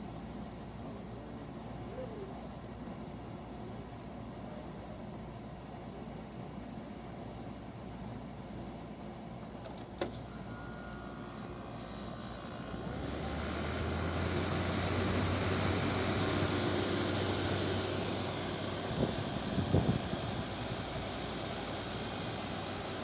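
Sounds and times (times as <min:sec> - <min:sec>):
air conditioner hum with rushing air: 0:00.0 - 0:23.0.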